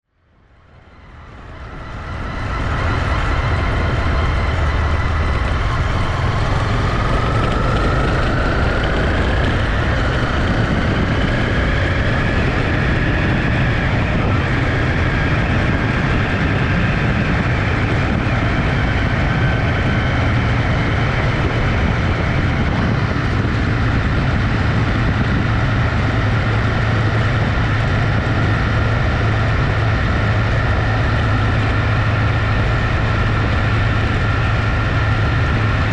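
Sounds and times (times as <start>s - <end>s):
wind and road noise: 0.1s - 35.9s
motorcycle engine running: 0.4s - 35.9s.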